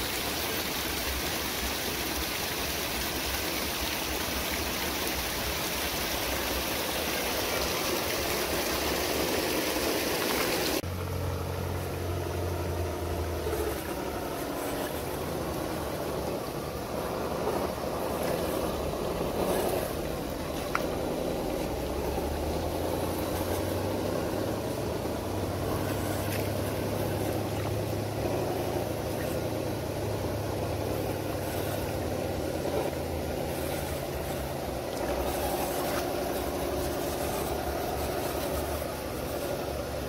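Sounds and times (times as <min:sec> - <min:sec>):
water rushing: 0:00.0 - 0:40.0
electric motors whirring: 0:04.1 - 0:40.0.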